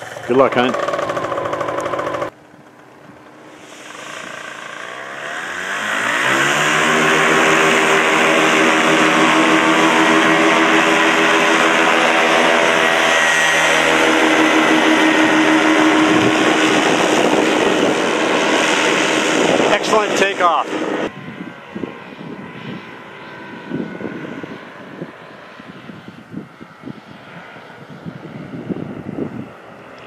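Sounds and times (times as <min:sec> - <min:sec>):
paramotor engine and propeller: 0:00.0 - 0:30.0.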